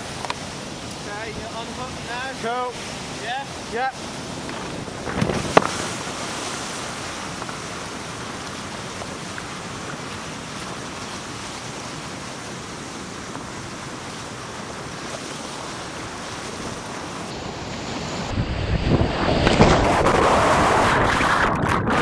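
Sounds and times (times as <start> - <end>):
river rushing over rapids: 0.0 - 18.4
water splashing: 0.0 - 22.0.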